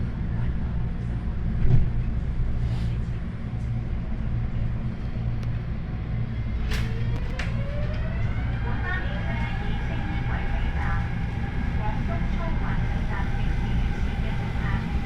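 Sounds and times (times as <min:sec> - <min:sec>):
train carriage hum and rumble: 0:00.0 - 0:15.0.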